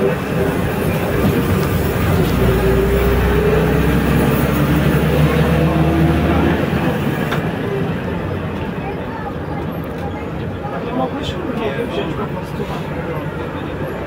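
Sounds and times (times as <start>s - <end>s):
bus engine hum: 0.0s - 14.0s
road rumble: 0.0s - 14.0s.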